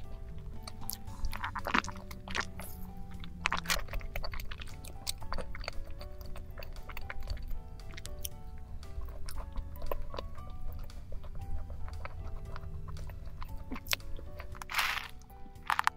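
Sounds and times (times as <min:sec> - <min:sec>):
chewing and wet mouth clicks: 0:00.0 - 0:15.9
light background music: 0:00.0 - 0:15.9.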